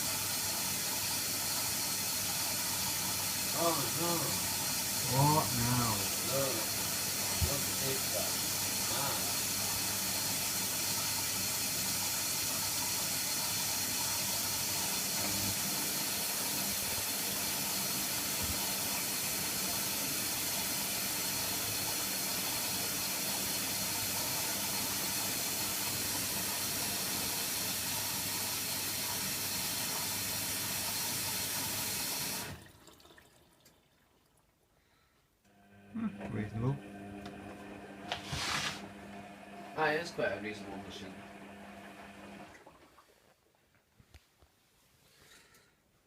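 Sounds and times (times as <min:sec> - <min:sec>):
water rushing into washing machine: 0:00.0 - 0:34.4, 0:35.5 - 0:43.2.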